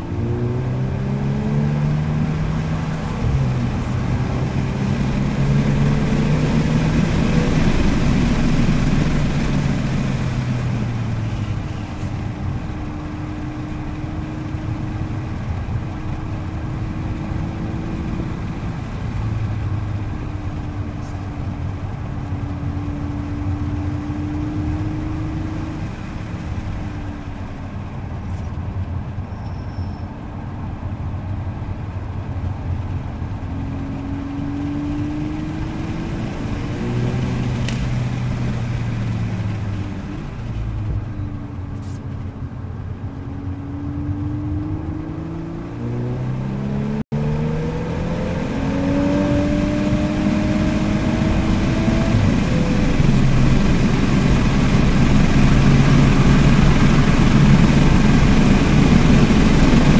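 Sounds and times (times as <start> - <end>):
car engine accelerating: 0.0 - 29.9, 30.9 - 59.9
tyre and road noise: 0.0 - 59.9.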